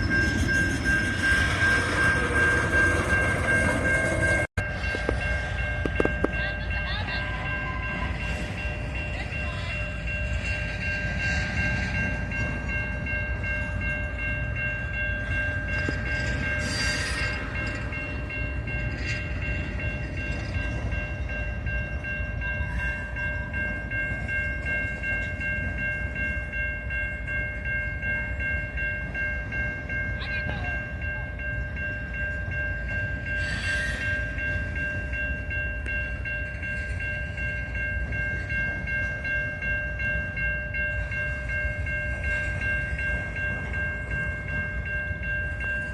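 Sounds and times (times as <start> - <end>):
steady high-pitched tones: 0.0 - 45.9
train rumbling past: 0.0 - 45.9.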